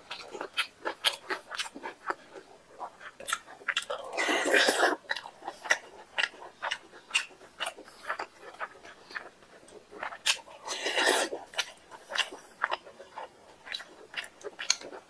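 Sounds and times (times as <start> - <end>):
mouth chewing wetly: 0.0 - 15.0.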